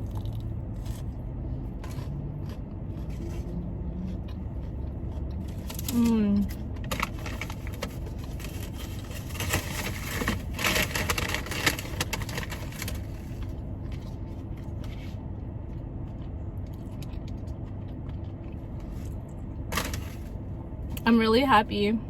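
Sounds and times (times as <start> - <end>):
chewing and crackling food: 0.0 - 20.3
car air conditioning hum: 0.0 - 22.0.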